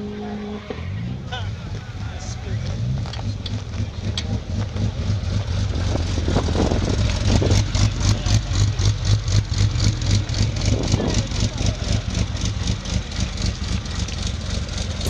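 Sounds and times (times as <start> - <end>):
car engine pulsing exhaust: 0.0 - 15.0.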